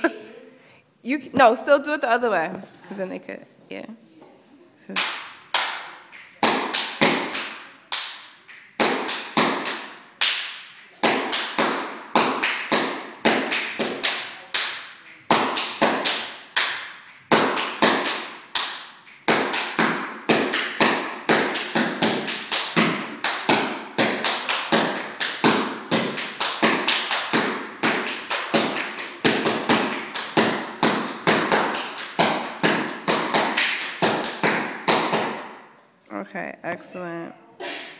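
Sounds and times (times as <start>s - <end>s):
hand claps: 4.9s - 35.5s.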